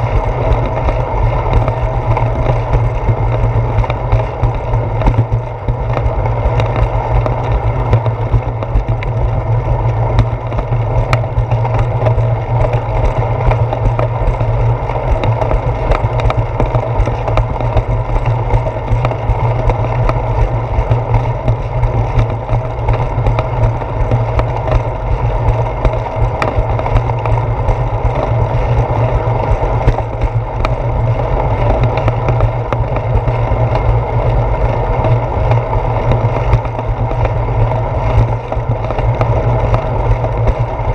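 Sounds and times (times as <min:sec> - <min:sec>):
bicycle tyres rolling on concrete: 0:00.0 - 0:40.9
bike rattling over bumps: 0:00.0 - 0:40.9
wind rushing over camera: 0:00.0 - 0:40.9.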